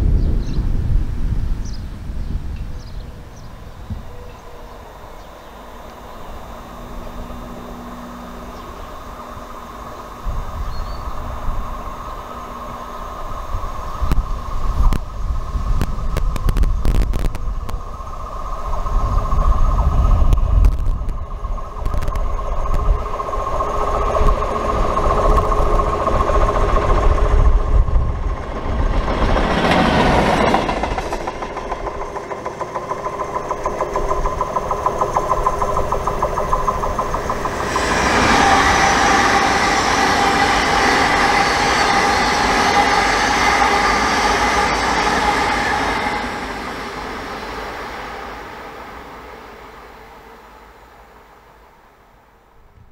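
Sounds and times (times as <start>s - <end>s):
electric train rushing past: 0.0s - 52.9s
diesel maintenance machine passing: 3.2s - 16.1s, 17.4s - 52.0s.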